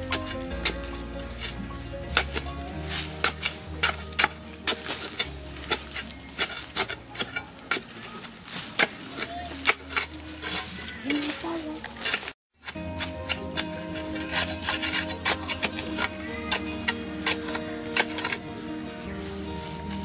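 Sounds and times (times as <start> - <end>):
spade striking and scraping soil: 0.0 - 20.0.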